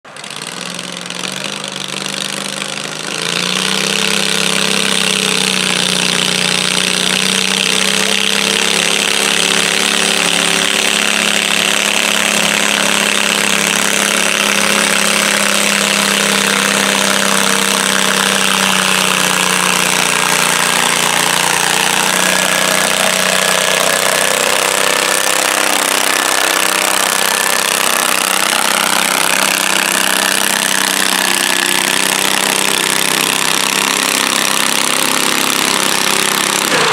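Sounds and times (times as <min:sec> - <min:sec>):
tractor engine under load: 0:00.0 - 0:36.9.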